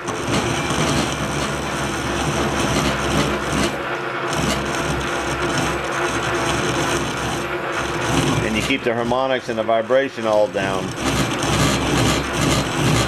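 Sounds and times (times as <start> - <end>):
lathe running hum: 0.0 - 13.0
lathe tool cutting metal: 0.0 - 13.0.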